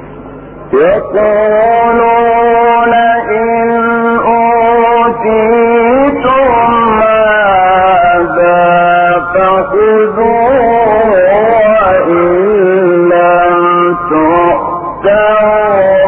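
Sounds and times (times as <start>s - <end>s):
man chanting melodically: 0.6s - 16.0s.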